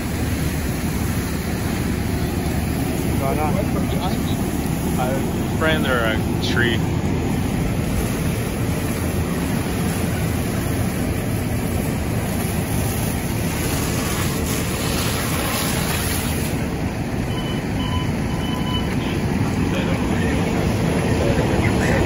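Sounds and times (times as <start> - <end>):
engine running: 0.0 - 22.0
fire hose spraying: 0.0 - 22.0.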